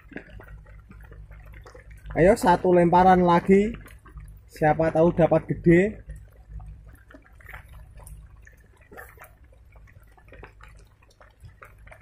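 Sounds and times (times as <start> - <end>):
low steady rumble: 0.0 - 12.0
rain drips and taps: 0.0 - 12.0.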